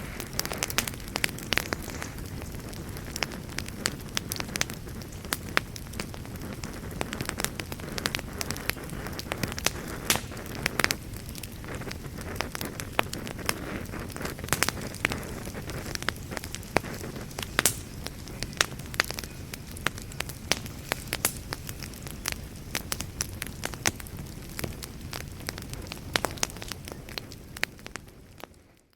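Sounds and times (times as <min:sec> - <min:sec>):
low fire rumble: 0:00.0 - 0:28.9
sharp pops from fire: 0:00.0 - 0:28.9
wood fire crackling: 0:00.0 - 0:28.9.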